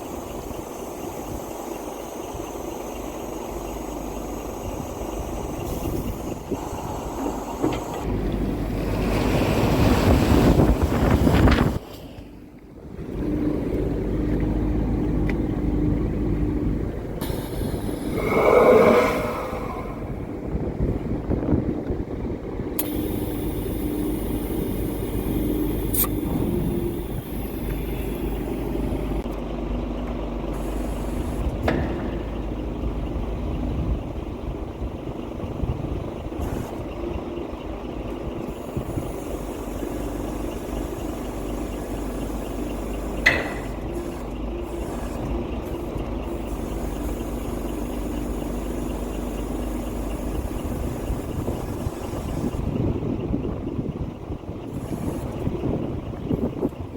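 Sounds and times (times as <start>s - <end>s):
low mechanical drone: 0.0s - 56.9s.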